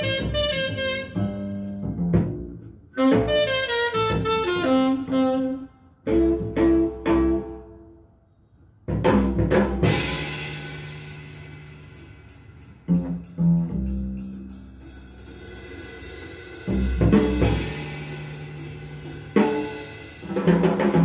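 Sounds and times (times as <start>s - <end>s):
instrumental jazz music: 0.0s - 21.0s.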